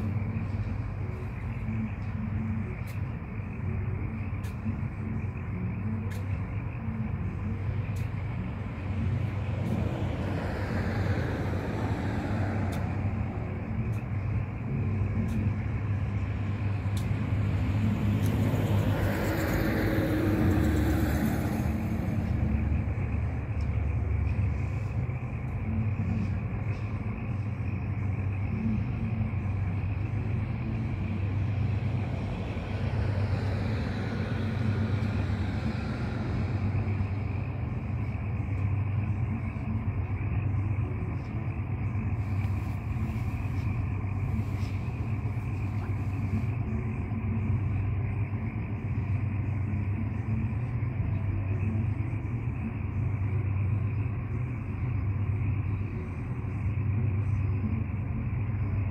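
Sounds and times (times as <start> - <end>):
diesel locomotive rumbling: 0.0 - 58.9.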